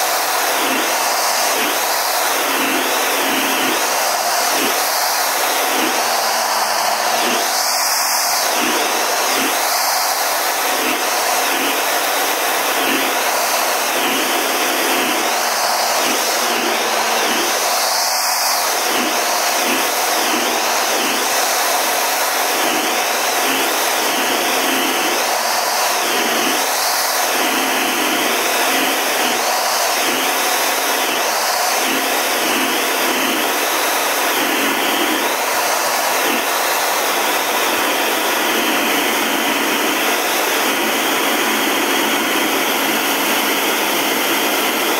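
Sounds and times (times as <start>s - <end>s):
jet engine and airflow rush: 0.0s - 44.9s.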